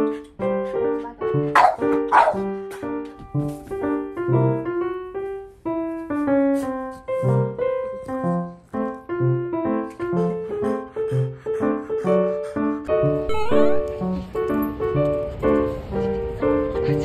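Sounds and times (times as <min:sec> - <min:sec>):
background music tune: 0:00.0 - 0:17.0.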